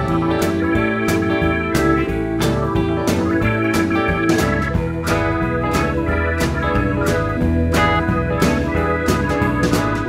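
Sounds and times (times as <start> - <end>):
instrumental music with guitar: 0.0 - 10.0.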